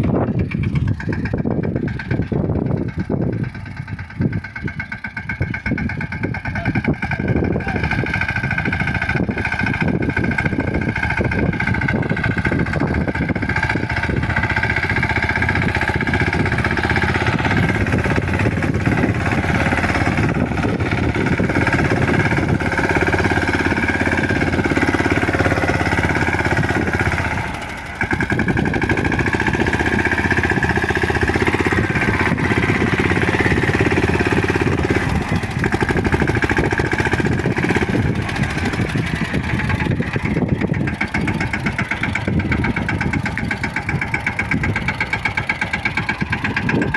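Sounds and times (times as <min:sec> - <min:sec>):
tractor diesel engine knocking: 0:00.0 - 0:46.9.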